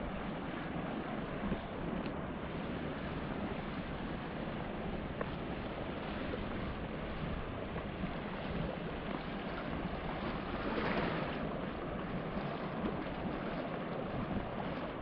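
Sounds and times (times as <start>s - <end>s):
sea surf washing on shore: 0.0s - 15.0s
wind on microphone: 0.0s - 15.0s.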